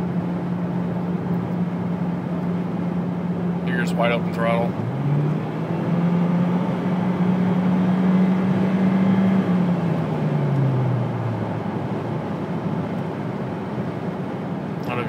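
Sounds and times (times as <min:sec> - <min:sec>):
car engine drone accelerating: 0:00.0 - 0:15.0.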